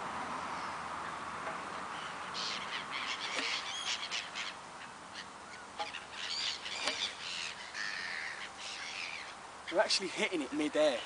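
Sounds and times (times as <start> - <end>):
birds calling over water: 0.4 - 11.0.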